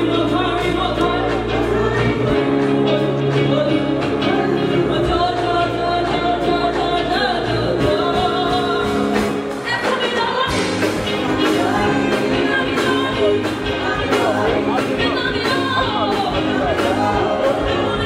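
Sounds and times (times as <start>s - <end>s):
live band accompaniment: 0.0s - 18.0s
woman singing into a microphone: 0.0s - 18.0s.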